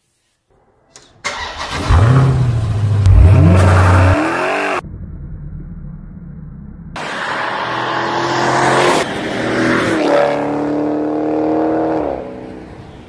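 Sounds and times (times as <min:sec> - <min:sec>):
car engine revving: 0:01.2 - 0:12.9.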